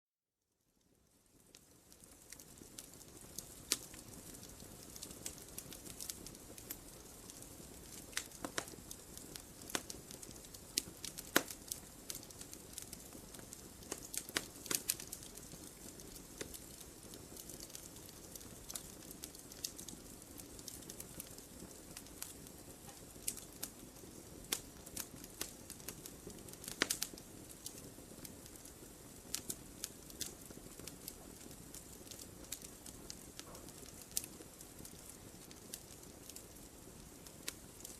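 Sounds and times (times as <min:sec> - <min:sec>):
wood fire crackling: 0:00.8 - 0:37.9.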